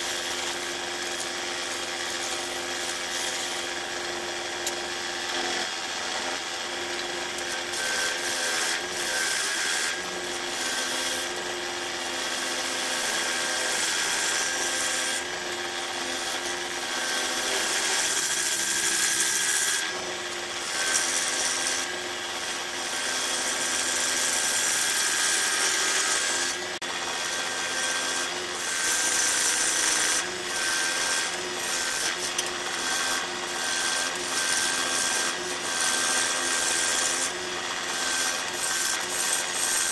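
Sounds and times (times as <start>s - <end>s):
wood lathe motor hum: 0.1s - 39.9s.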